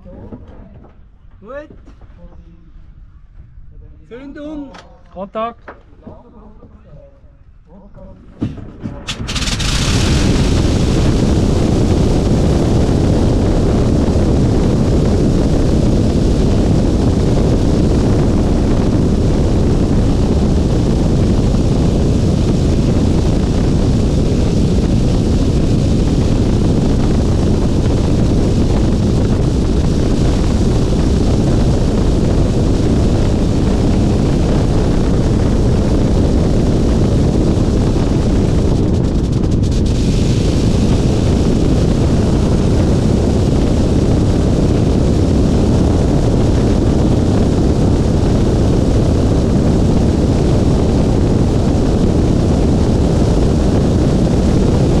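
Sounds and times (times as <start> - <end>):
biplane engine running: 9.1 - 55.0
propeller wash buffeting microphone: 9.1 - 55.0.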